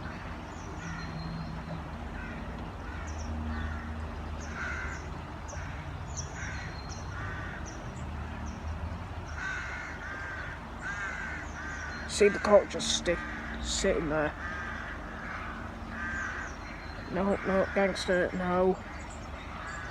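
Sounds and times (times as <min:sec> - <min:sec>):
rooks cawing: 0:00.0 - 0:08.5, 0:09.2 - 0:19.9
steady low rumble: 0:00.0 - 0:19.9.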